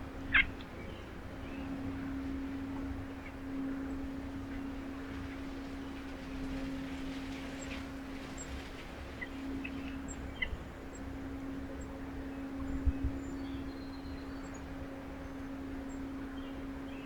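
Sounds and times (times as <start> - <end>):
low hum with rumble: 0.0 - 17.0.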